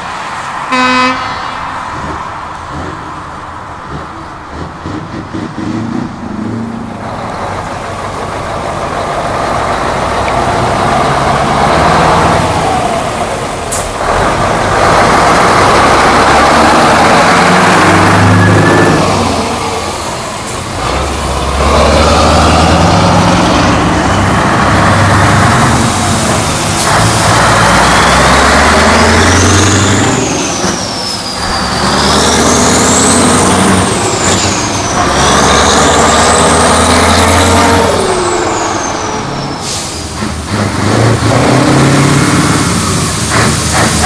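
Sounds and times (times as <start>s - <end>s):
truck engines revving: 0.0s - 44.0s.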